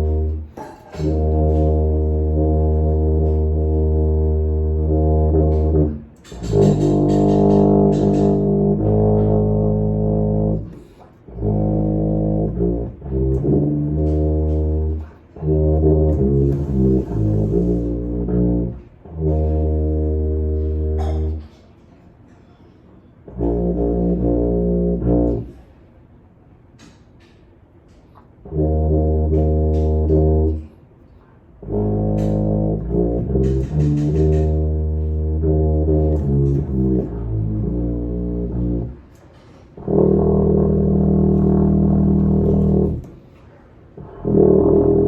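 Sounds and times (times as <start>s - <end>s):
tuba playing slow melody: 0.0s - 21.5s, 23.2s - 25.8s, 28.4s - 45.0s.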